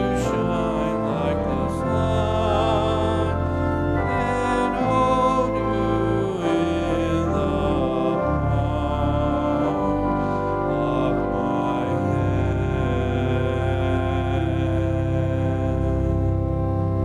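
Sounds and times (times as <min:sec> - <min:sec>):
slow music of held chords: 0:00.0 - 0:17.0.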